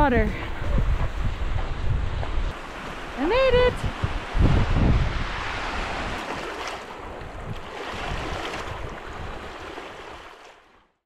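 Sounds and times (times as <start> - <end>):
wind rushing: 0.0 - 9.6
water lapping at shore: 0.2 - 10.9.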